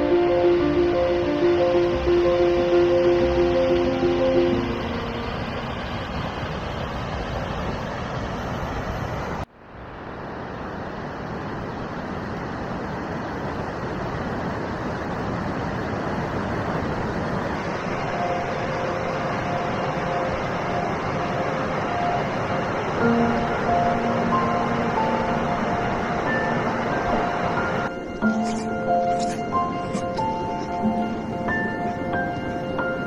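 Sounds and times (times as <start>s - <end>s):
stream and waterfall rushing: 0.0s - 33.0s.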